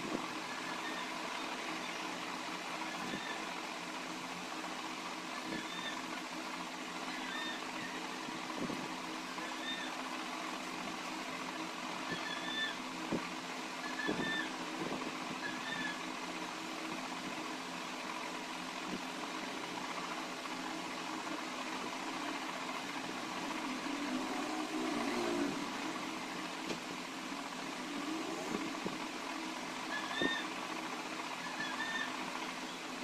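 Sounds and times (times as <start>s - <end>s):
machine hum and hiss: 0.0s - 33.0s.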